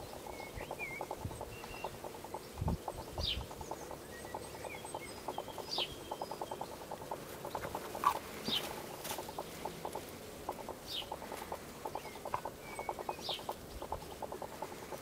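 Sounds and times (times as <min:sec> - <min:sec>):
small birds calling: 0:00.0 - 0:15.0.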